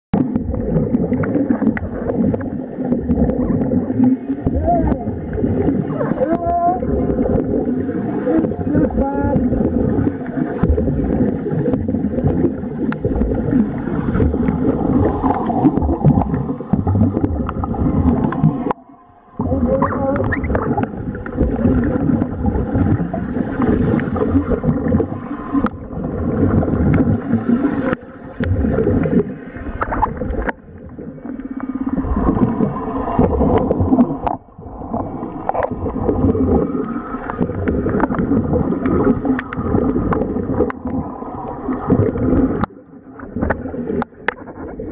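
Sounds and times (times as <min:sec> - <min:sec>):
air bubbling underwater: 0:00.1 - 0:44.9.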